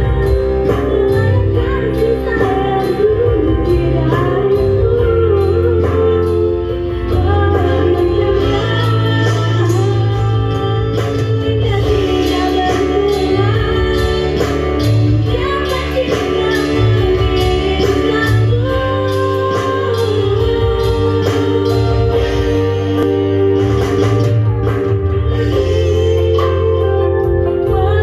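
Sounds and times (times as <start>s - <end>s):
person singing: 0.0s - 23.6s, 25.1s - 28.0s
electronic keyboard: 0.0s - 28.0s.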